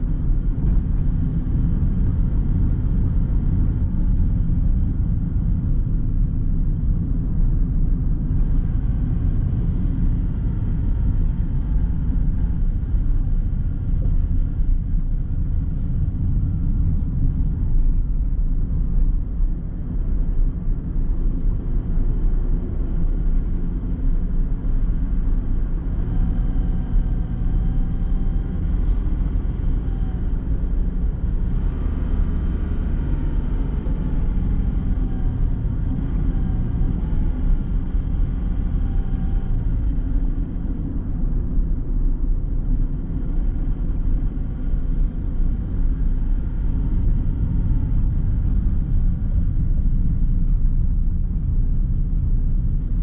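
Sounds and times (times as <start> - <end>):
car engine and tyre rumble: 0.0 - 53.0
faint whining tones: 0.0 - 53.0.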